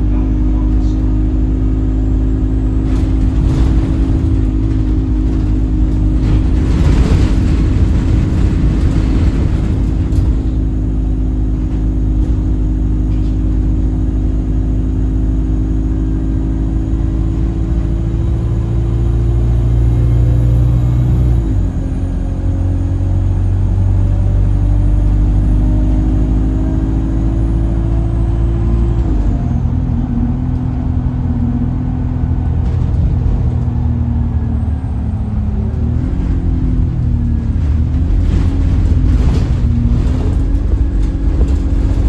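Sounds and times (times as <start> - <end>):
bus engine rumble: 0.0 - 42.0.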